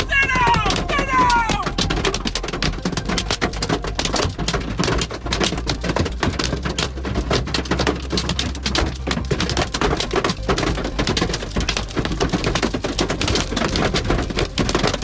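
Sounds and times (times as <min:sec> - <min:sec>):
hail pelting a hard surface: 0:00.0 - 0:15.0.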